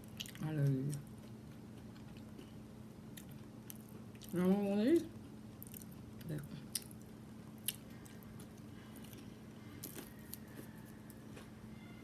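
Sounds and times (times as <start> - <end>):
person chewing: 0.0 - 4.3, 5.6 - 11.5
low steady hum: 0.0 - 12.0.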